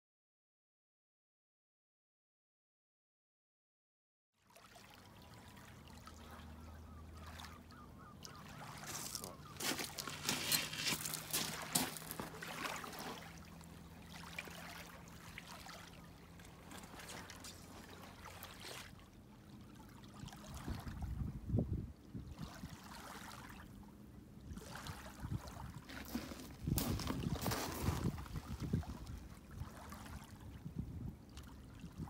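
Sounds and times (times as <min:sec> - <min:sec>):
water lapping and trickling: 0:04.4 - 0:32.0.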